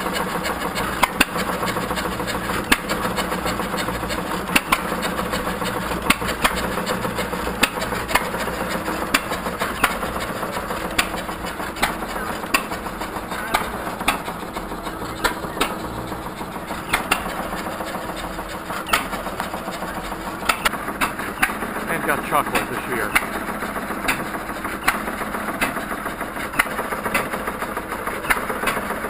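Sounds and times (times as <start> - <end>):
steady low hum: 0.0 - 27.7
hit-and-miss engines popping: 0.0 - 29.0.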